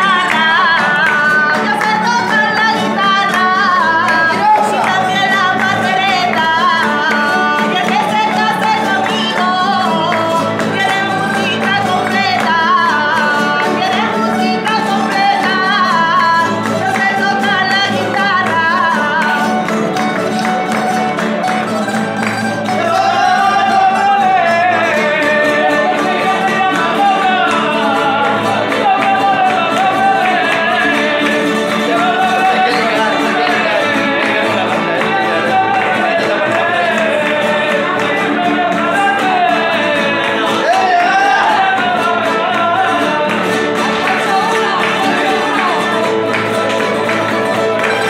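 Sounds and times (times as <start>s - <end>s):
woman singing: 0.0s - 19.9s, 22.7s - 48.0s
guitar accompaniment: 0.0s - 48.0s
people clapping in rhythm: 0.0s - 48.0s.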